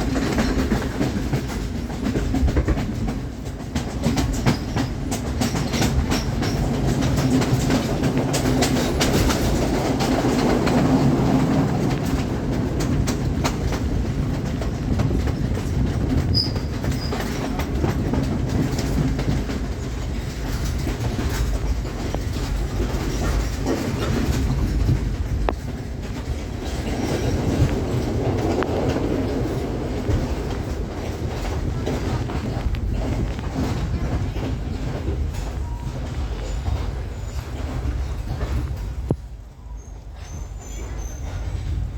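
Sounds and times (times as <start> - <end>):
wheels clicking over track: 0.0 - 39.2
train rumbling on rails: 0.0 - 41.9.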